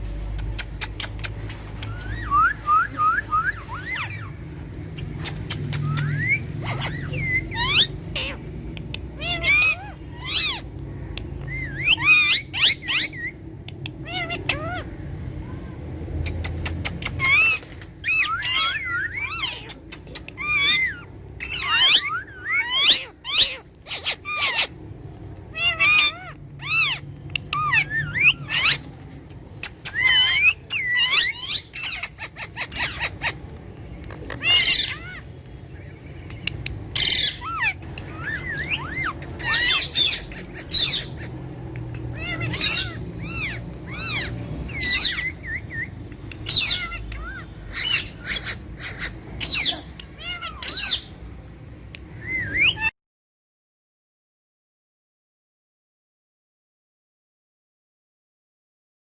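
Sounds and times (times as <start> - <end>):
parrots chirping and squawking: 0.0 - 52.9.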